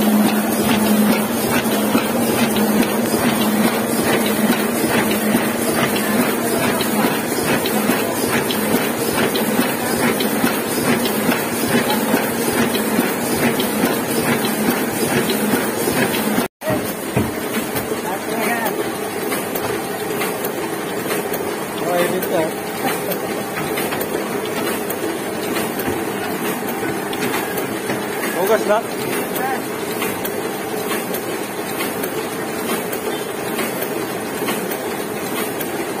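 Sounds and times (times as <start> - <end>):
printing press mechanical clatter: 0.0 - 36.0.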